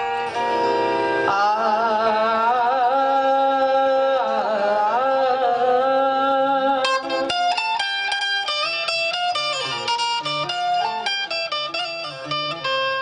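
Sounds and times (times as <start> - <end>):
harmonium notes: 0.0 - 13.0.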